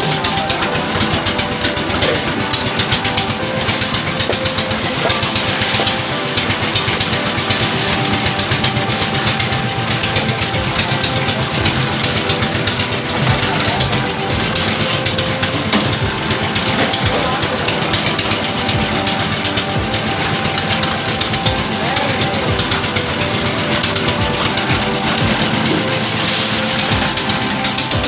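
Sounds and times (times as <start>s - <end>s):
concrete mixer engine running: 0.0s - 28.0s.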